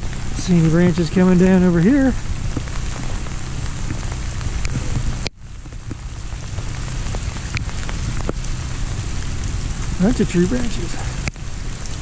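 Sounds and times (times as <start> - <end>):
freezing rain falling: 0.0 - 12.0.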